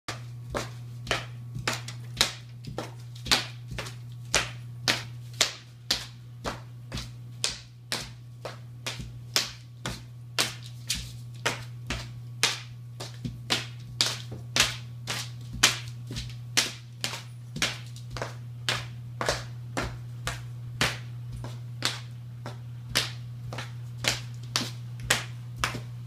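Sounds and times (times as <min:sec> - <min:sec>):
faint low hum: 0:00.1 - 0:26.0.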